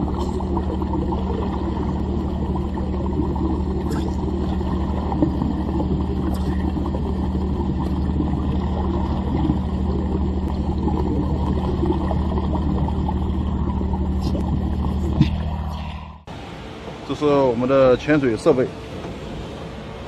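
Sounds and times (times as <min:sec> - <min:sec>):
loud low mechanical hum: 0:00.0 - 0:20.0.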